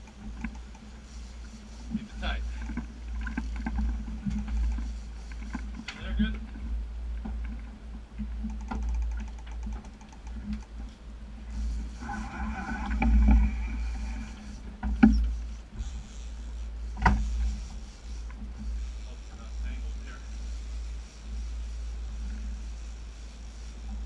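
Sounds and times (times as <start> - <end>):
outboard motors running: 0.0 - 24.0.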